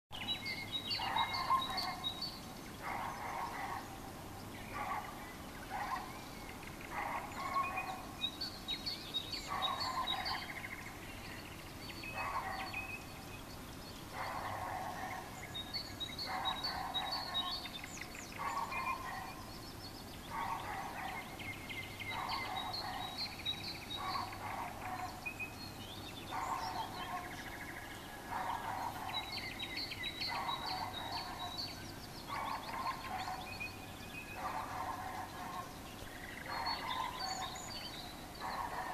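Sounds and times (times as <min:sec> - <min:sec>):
nightingale singing: 0:00.1 - 0:03.8, 0:04.5 - 0:38.9.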